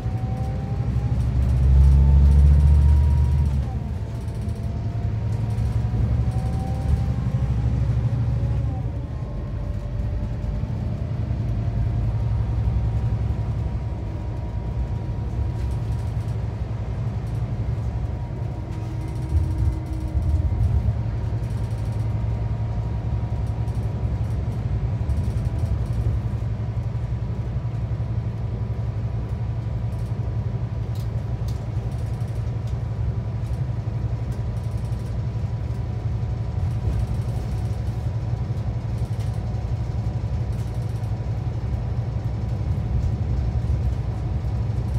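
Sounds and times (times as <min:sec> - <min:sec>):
diesel engine drone: 0:00.0 - 0:44.9.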